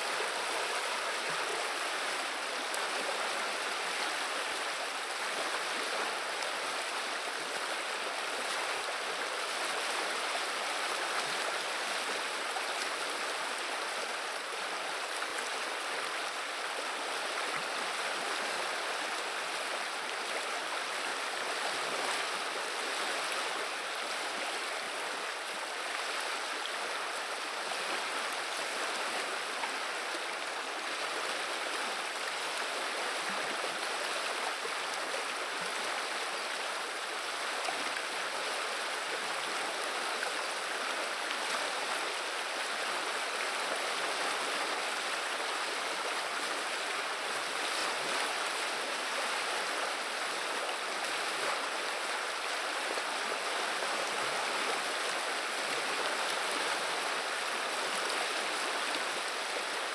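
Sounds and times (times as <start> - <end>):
river water babbling: 0.0 - 59.9.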